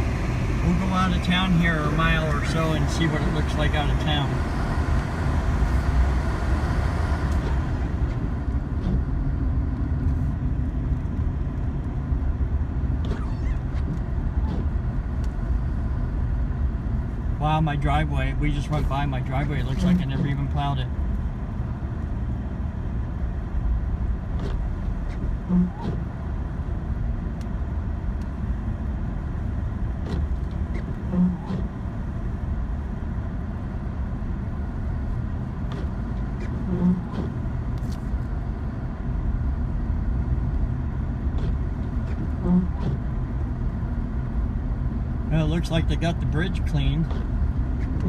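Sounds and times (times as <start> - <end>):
engine and tyre rumble: 0.0 - 48.0.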